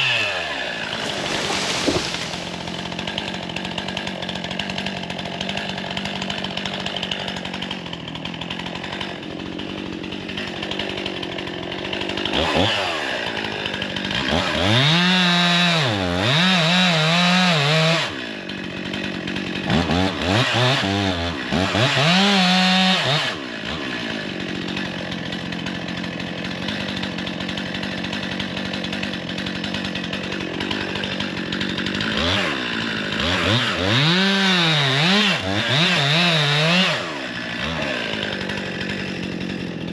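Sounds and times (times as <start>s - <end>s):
chainsaw cutting into tree: 0.0s - 39.9s
chainsaw idling and revving: 0.0s - 39.9s.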